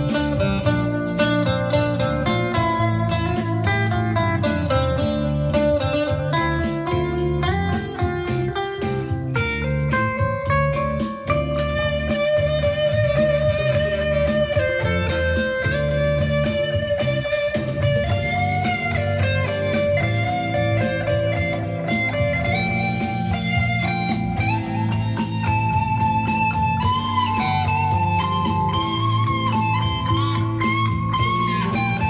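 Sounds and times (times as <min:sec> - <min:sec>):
backing track with bass line: 0:00.0 - 0:32.0
electric guitar long held notes: 0:00.0 - 0:32.0.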